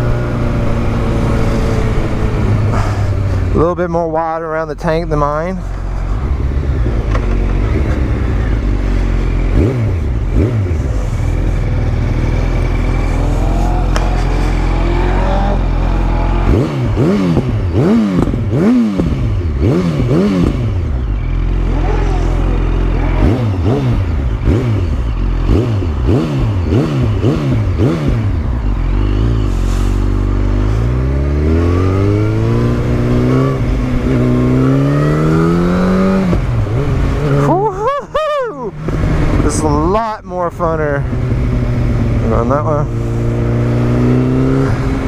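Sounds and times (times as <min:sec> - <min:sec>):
motorcycle engine revving: 0:00.0 - 0:38.0, 0:38.6 - 0:45.0.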